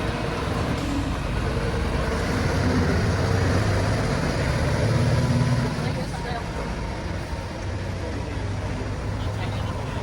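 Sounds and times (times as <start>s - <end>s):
construction machinery engine droning: 0.0s - 10.0s.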